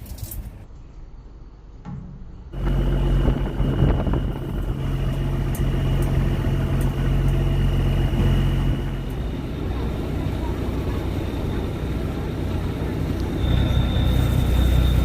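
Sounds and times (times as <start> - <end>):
faint high whine: 0.6 - 15.0
boat engine running: 2.6 - 15.0.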